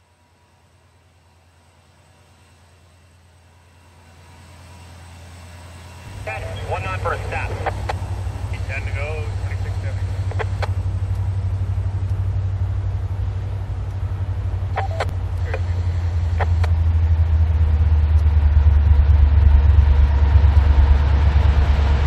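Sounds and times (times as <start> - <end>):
freight train rumble: 0.2 - 22.0.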